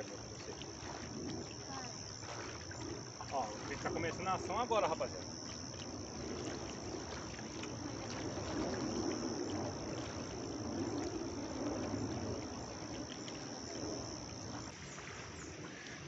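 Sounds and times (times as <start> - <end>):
insect buzzing: 0.0 - 15.8.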